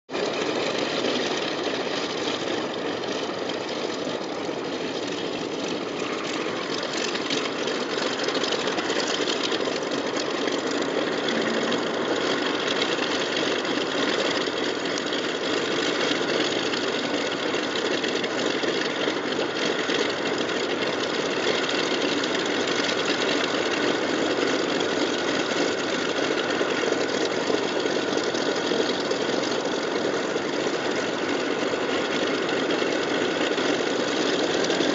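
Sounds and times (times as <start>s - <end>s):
aircraft piston engines running: 0.1s - 34.9s.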